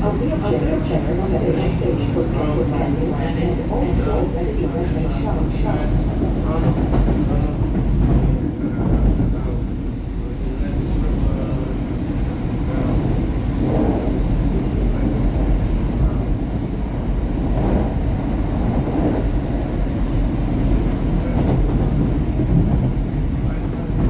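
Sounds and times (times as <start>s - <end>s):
subway train rumbling on track: 0.0s - 24.0s.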